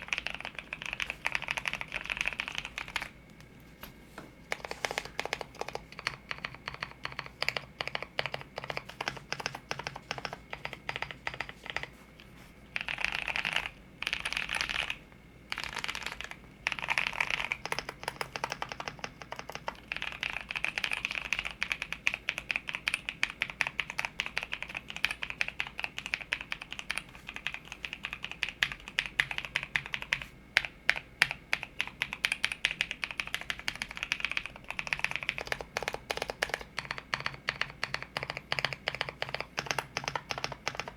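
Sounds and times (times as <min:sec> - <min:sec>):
mechanical keyboard typing: 0:00.0 - 0:03.2, 0:04.5 - 0:11.9, 0:12.7 - 0:40.9.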